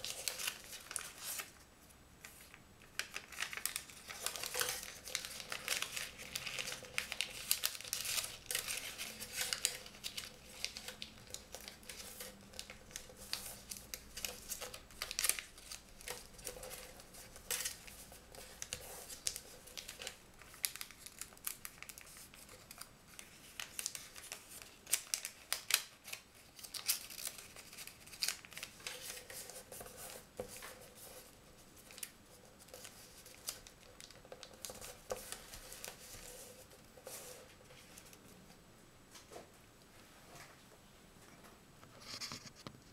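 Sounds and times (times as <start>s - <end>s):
paper rustling and crinkling: 0.0s - 1.6s, 2.2s - 38.3s, 42.0s - 42.9s.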